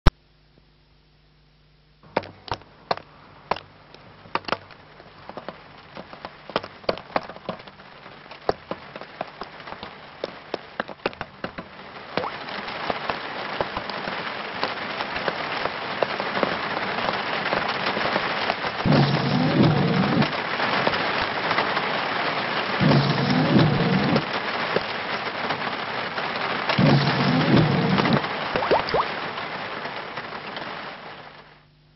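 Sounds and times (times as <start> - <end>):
rain falling: 1.7 - 31.7.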